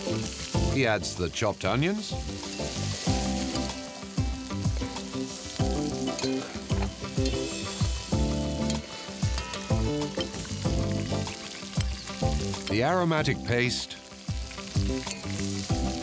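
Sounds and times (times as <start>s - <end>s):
background music with a beat: 0.0s - 13.4s, 14.0s - 16.0s
food sizzling in hot oil: 0.0s - 16.0s.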